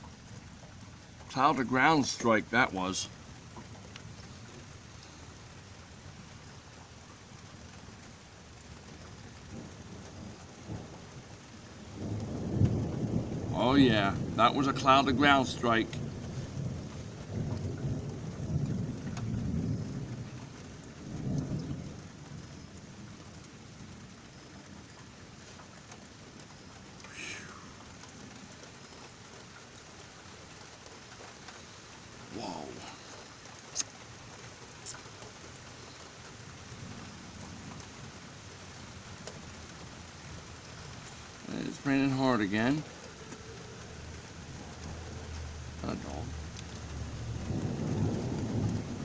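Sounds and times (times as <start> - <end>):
thunder rumbling: 0.0 - 28.9, 30.4 - 49.0
steady rain falling: 0.0 - 49.0.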